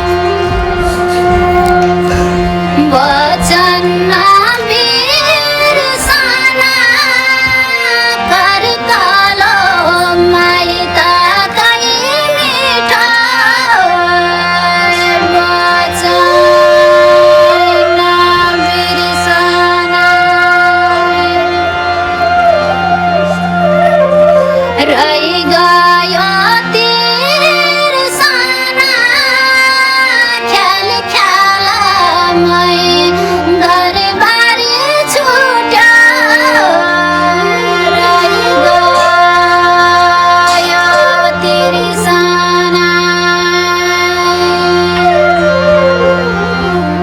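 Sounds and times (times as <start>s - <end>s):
ornamented melody over drone: 0.0s - 47.0s.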